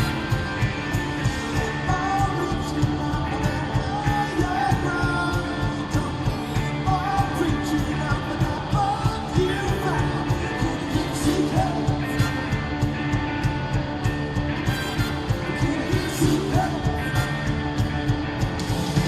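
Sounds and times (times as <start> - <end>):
person singing: 0.0 - 12.9, 15.2 - 17.6
drums steady beat: 0.0 - 19.0
electric guitars: 0.0 - 19.0.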